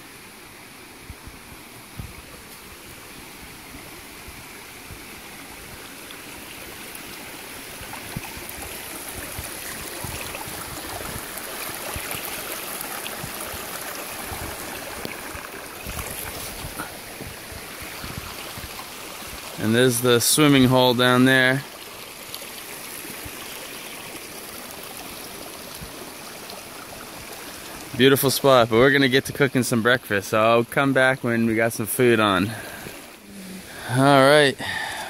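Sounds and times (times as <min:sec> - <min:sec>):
river babbling over rocks: 0:00.1 - 0:35.0.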